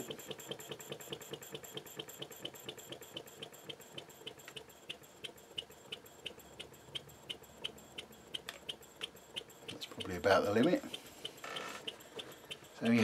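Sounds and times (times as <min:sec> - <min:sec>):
model steam engine ticking: 0:00.0 - 0:13.0.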